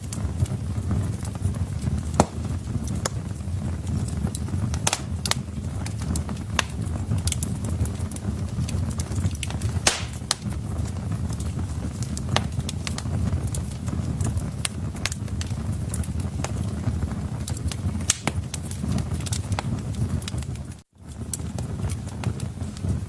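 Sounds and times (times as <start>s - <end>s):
fire crackles and pops: 0.0s - 23.0s
fire rumbling: 0.0s - 23.0s.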